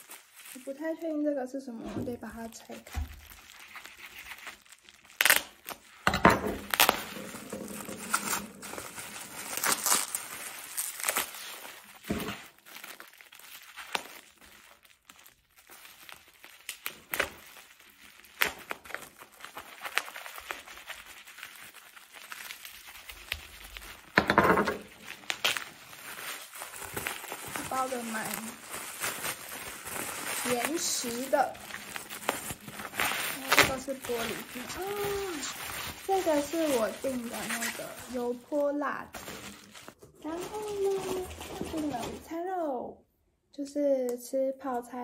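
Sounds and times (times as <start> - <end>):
paper and bubble wrap crumpling: 0.0 - 42.5.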